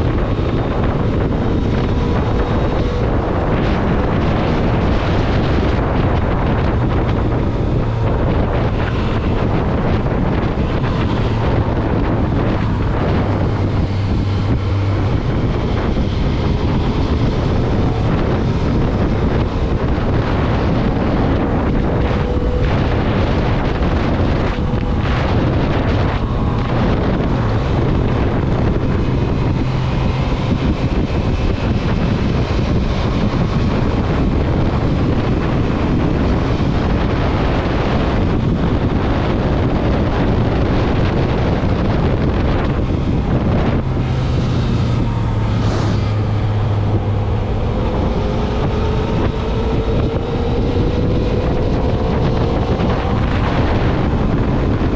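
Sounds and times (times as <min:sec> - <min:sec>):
motorcycle engine running: 0:00.0 - 0:54.9
wind noise on microphone: 0:00.0 - 0:54.9.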